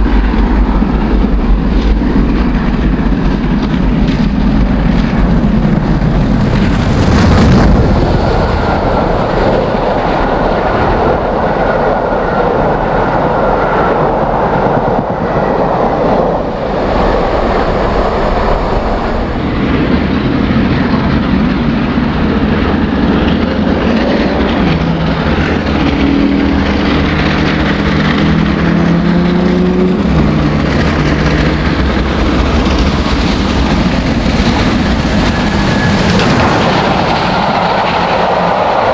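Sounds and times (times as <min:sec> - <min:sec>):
rumble of train coaches: 0:00.0 - 0:38.9
steam locomotive working hard: 0:00.0 - 0:38.9.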